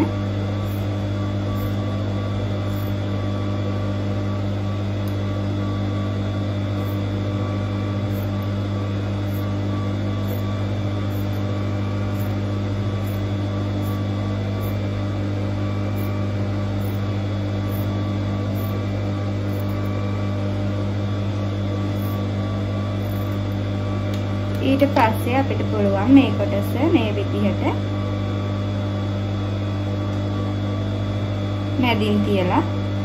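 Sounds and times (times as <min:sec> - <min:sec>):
faint buzz: 0:00.0 - 0:33.0
low electrical hum: 0:00.0 - 0:33.0.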